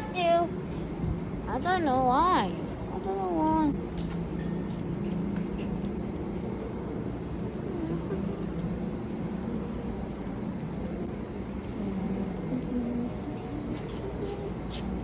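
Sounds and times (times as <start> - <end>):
train humming: 0.0 - 15.0.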